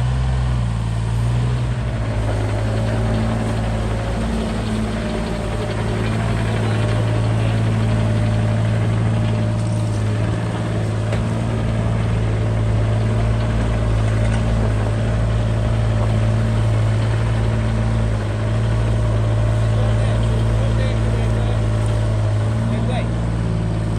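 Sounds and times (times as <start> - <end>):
mini excavator diesel engine running: 0.0 - 23.9.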